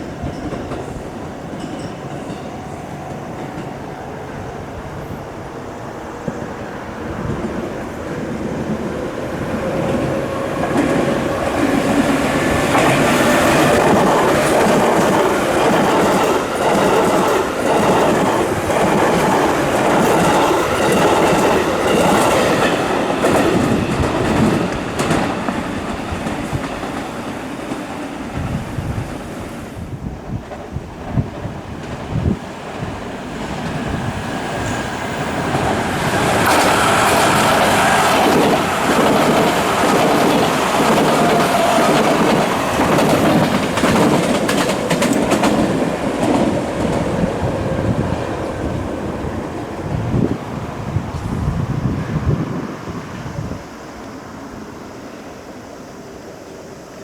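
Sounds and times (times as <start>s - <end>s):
train wheels clickety-clack: 0.0s - 3.9s, 7.2s - 48.9s.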